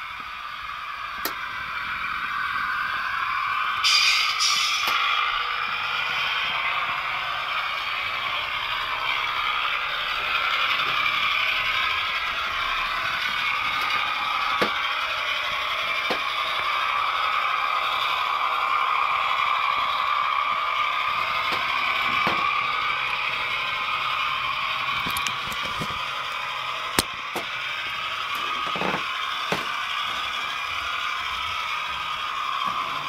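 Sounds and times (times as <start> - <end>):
model motor and gear whirr: 0.0 - 33.0.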